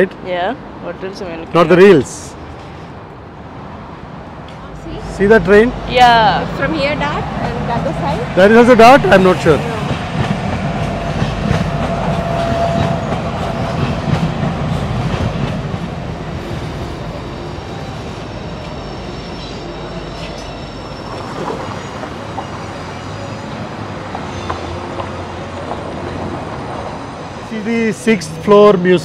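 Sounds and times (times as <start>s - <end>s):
light rail train passing: 0.0s - 29.0s
train whine: 1.1s - 29.0s.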